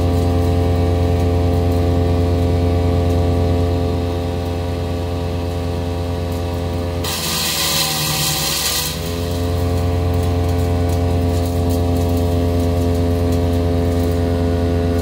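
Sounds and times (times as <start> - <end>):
wood chipper engine running: 0.0 - 15.0
wood grinding in chipper: 0.0 - 15.0.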